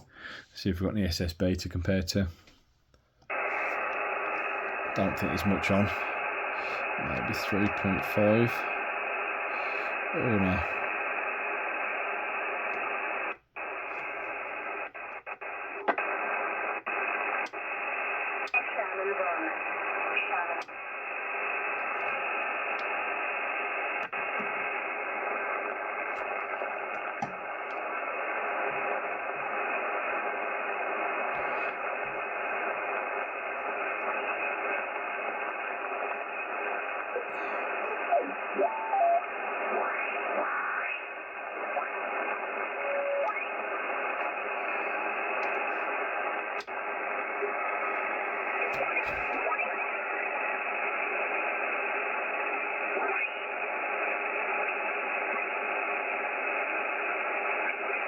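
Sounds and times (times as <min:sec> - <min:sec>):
radio static hiss: 0:00.0 - 0:02.4, 0:03.3 - 0:58.0
whistling radio tones: 0:03.3 - 0:58.0.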